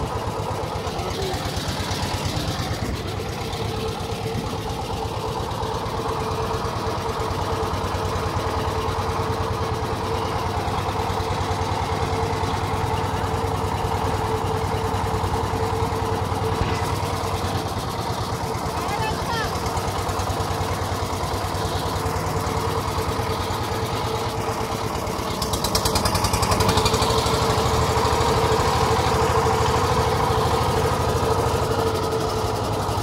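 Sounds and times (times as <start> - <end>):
boat engine chugging: 0.0 - 33.0.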